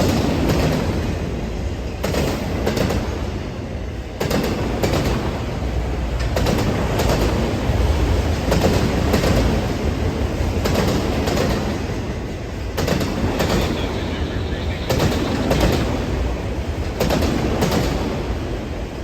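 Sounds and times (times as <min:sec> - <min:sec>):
train wheels clacking: 0:00.0 - 0:18.8
freight train rumbling: 0:00.0 - 0:19.0.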